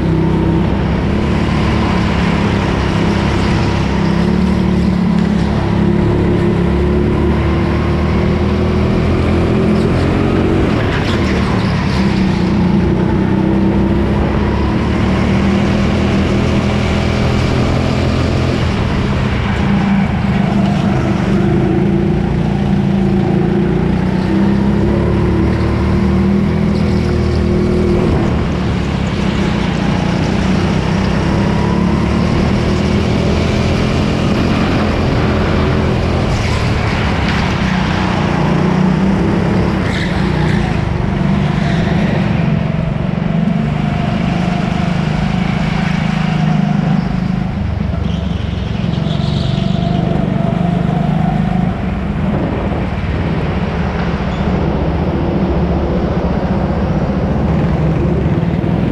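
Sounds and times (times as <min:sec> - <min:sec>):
go-kart engine racing: 0:00.0 - 0:58.9.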